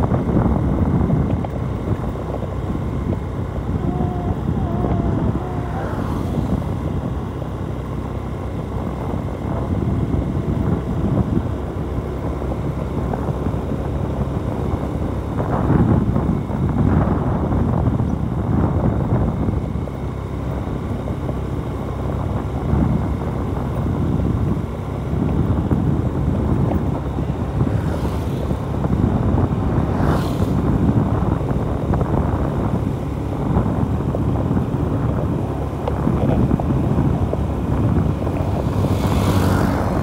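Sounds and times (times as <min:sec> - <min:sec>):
motorcycle engine rumble: 0:00.0 - 0:40.0
wind buffeting microphone: 0:00.0 - 0:40.0.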